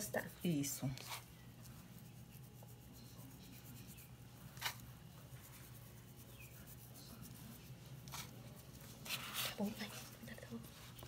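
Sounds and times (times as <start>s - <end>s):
dried herbs rustling: 0.0s - 11.0s.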